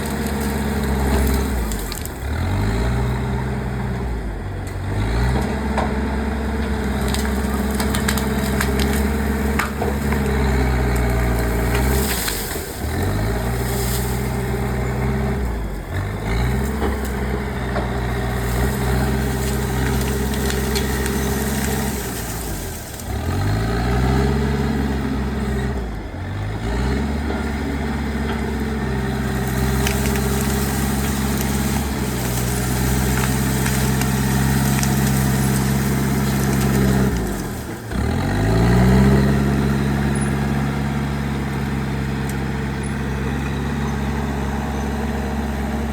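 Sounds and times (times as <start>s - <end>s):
wood crackling and snapping: 0.0s - 25.7s, 27.6s - 43.9s
bulldozer diesel engine under load: 0.0s - 45.9s.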